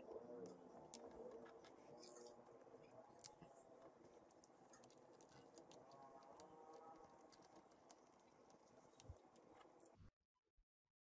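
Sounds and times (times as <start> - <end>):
small ticks: 0.0 - 10.1.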